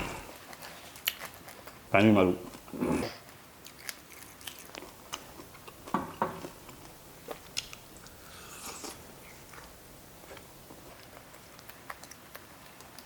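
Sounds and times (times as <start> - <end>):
person chewing and biting food: 0.0 - 1.9, 2.5 - 13.0.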